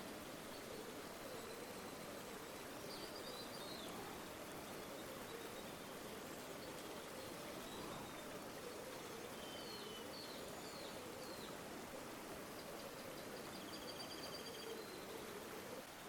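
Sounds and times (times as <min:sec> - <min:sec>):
river water running: 0:00.0 - 0:16.0.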